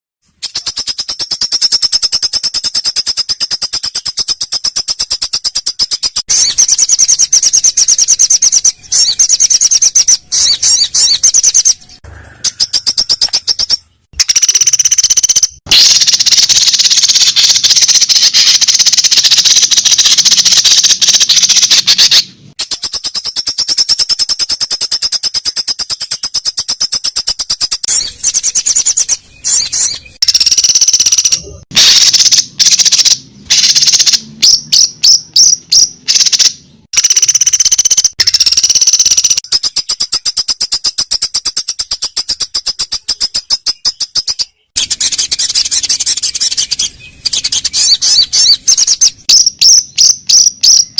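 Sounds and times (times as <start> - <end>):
songbird rattling trill: 0.3 - 50.9.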